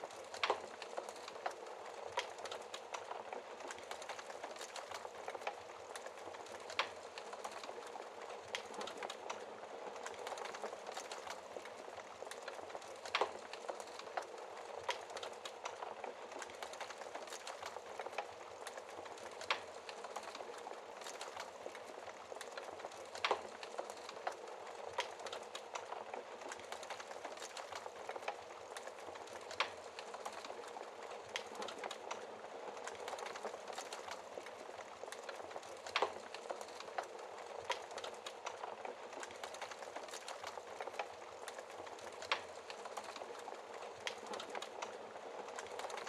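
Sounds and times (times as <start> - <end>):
logs crackling in fireplace: 0.0 - 46.0.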